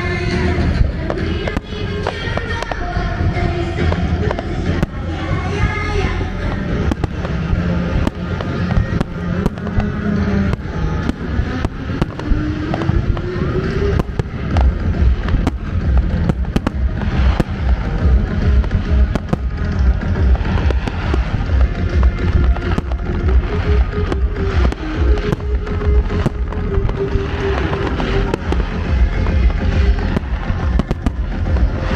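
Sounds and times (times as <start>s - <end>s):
deep rumble: 0.0s - 31.9s
fireworks exploding: 0.0s - 31.9s
music: 0.0s - 31.9s.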